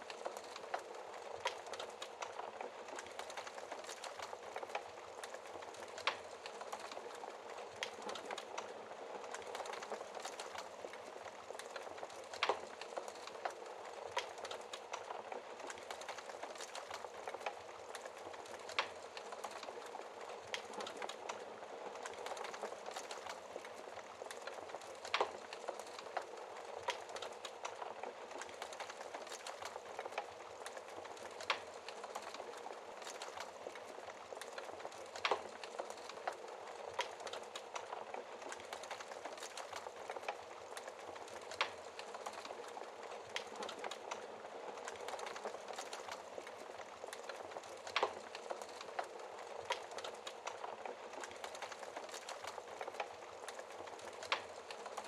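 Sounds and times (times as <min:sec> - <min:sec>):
fire crackling in a fireplace: 0:00.0 - 0:55.0.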